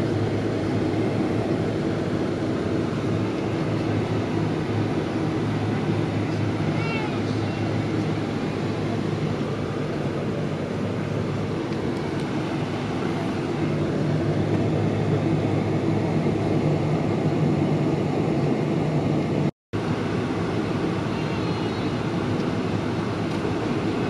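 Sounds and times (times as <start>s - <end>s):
aircraft cabin hum: 0.0s - 24.0s.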